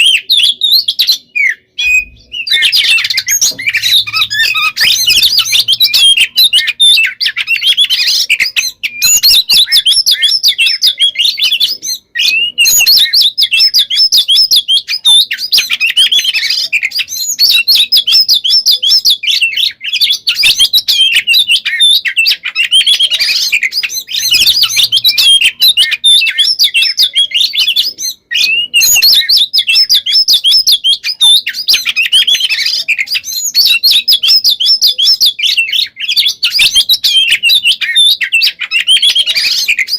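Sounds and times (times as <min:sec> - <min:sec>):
bird whistles and trills: 0:00.0 - 0:39.9.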